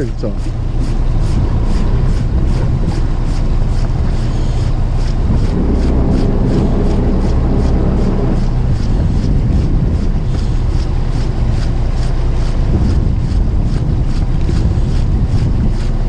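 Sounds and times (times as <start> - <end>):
heavy low rumble: 0.0 - 16.0
waves washing against hull: 0.0 - 16.0
wind buffeting microphone: 0.0 - 16.0.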